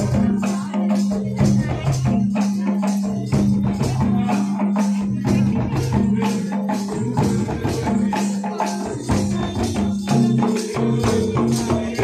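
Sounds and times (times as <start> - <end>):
drums beaten in quick rhythm: 0.0 - 12.0.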